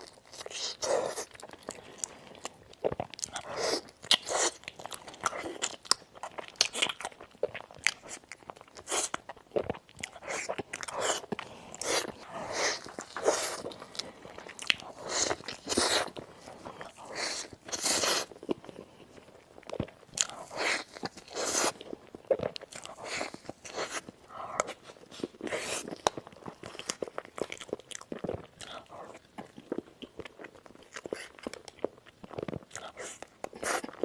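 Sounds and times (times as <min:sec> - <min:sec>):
crunchy chewing: 0:00.0 - 0:34.0.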